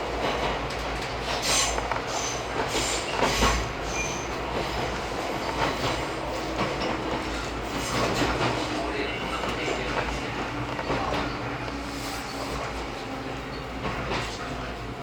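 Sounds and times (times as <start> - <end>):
electric train rumbling: 0.0 - 15.0
faint clicks from rails: 0.1 - 15.0.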